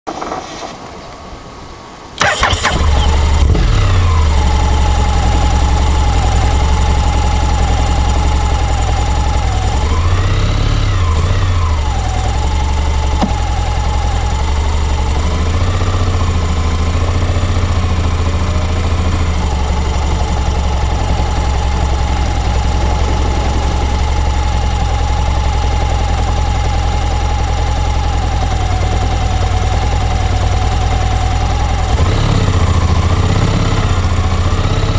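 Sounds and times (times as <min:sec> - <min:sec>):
steady high whine: 0:01.5 - 0:34.9
engine revving: 0:02.2 - 0:34.9
motorcycle engine starting and idling: 0:02.2 - 0:34.9.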